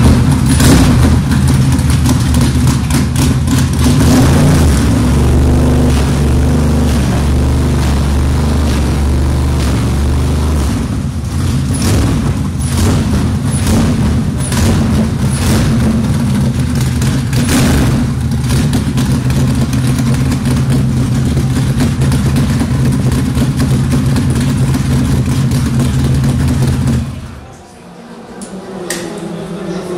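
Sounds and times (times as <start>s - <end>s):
race car engine running loud: 0.0s - 27.4s.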